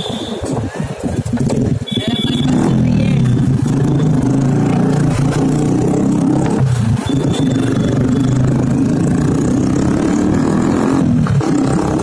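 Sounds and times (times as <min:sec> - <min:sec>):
motorcycle engine running: 0:01.1 - 0:12.0.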